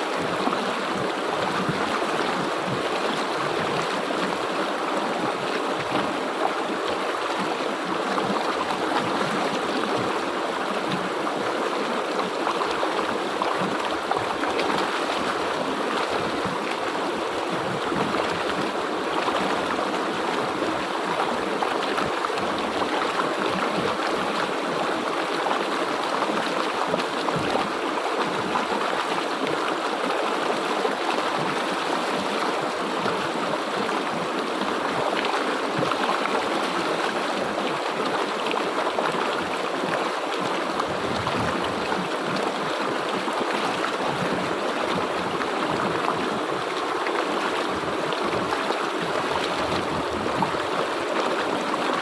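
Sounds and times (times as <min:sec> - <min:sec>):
stream flowing over rocks: 0:00.0 - 0:52.0.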